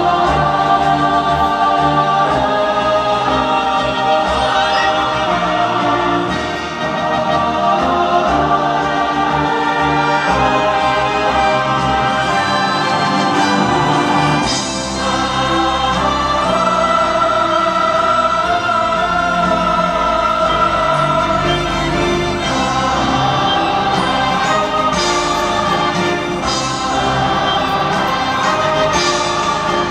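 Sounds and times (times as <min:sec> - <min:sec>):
choir singing held notes: 0:00.0 - 0:29.9
orchestra playing: 0:00.0 - 0:29.9.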